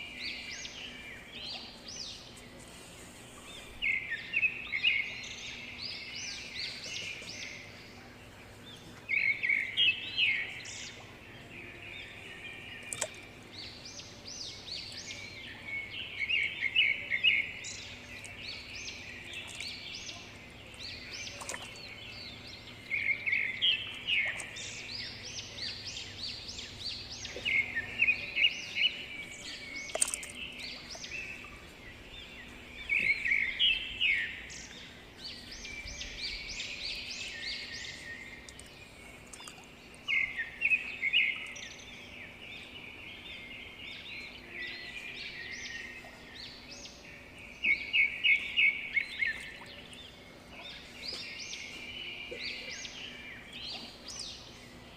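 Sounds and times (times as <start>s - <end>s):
songbird chirping: 0.0s - 54.9s.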